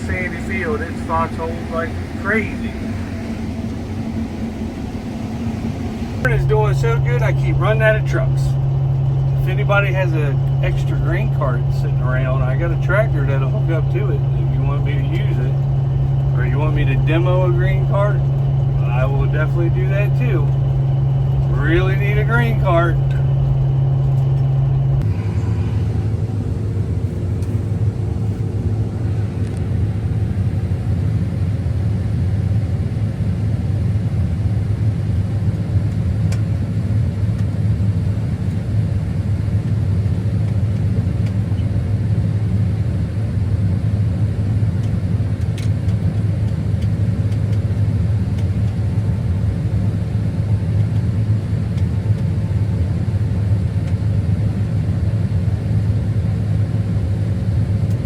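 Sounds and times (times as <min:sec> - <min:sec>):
combine harvester droning: 0:00.0 - 0:32.9, 0:34.6 - 0:58.0.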